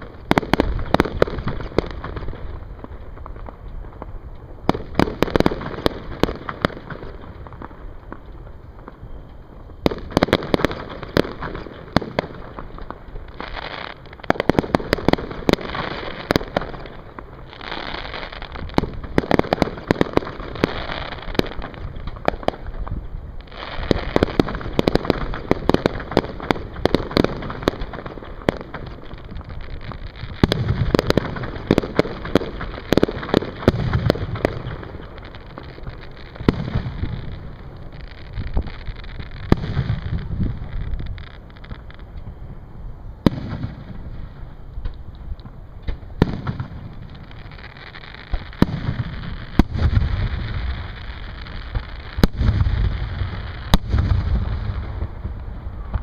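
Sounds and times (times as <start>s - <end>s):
deep fireworks booms: 0.0s - 56.0s
fireworks popping and crackling: 0.0s - 56.0s.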